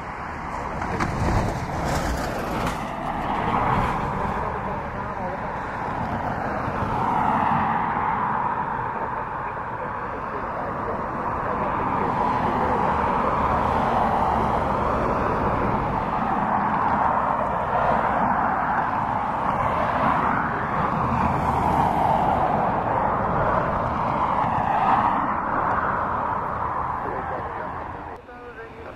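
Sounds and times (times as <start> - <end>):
jet engines roaring: 2.2 - 28.9.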